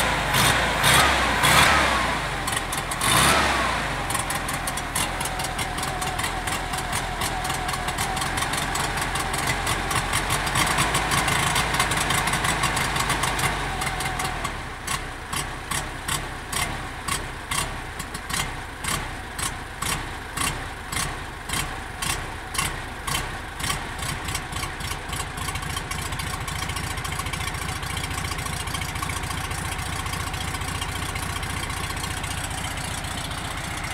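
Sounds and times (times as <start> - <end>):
car engine idling: 0.0 - 33.9
engine ticking: 0.0 - 33.9.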